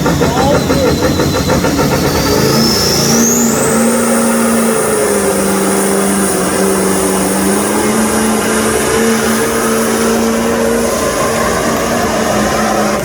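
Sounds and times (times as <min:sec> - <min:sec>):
high whine: 0:00.0 - 0:13.0
truck engine droning: 0:00.0 - 0:13.0.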